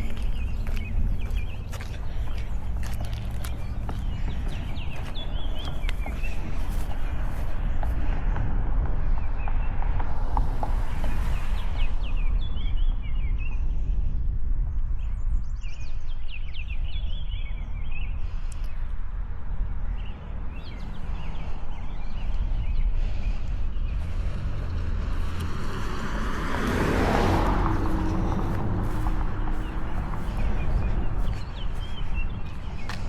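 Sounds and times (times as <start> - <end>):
car passing on road: 0.0 - 13.5, 19.1 - 33.0
birds chirping: 0.0 - 33.0
wind rumble on microphone: 0.0 - 33.0.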